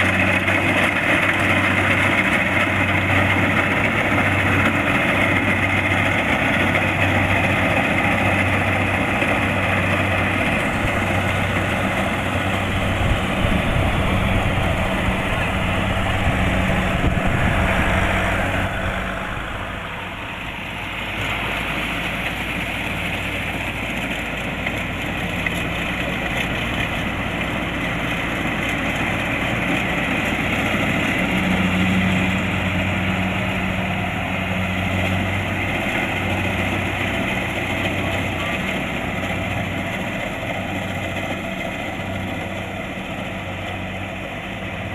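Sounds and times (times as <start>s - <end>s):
combine harvester diesel engine: 0.0s - 44.9s
harvesting machinery clatter: 0.0s - 44.9s.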